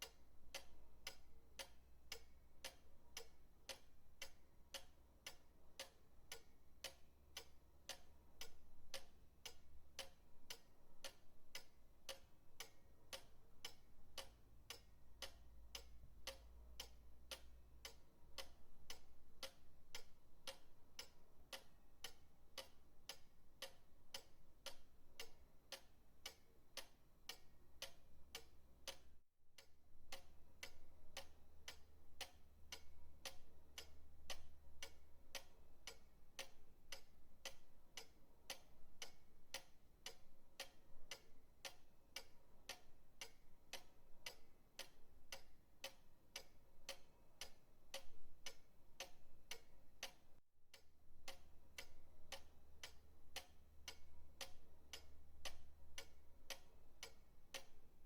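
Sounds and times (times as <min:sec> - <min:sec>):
pendulum clock ticking: 0:00.0 - 0:58.0.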